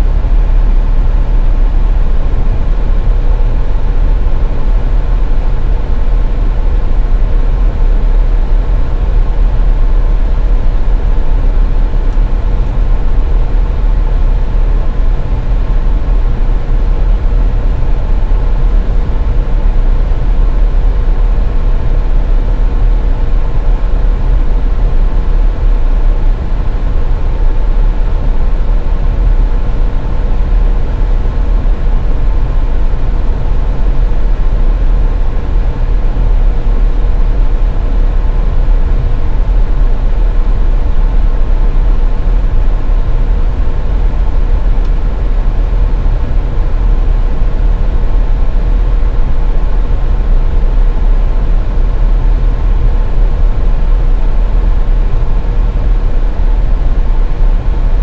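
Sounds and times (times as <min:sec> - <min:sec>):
faint constant hum: 0:00.0 - 0:58.0.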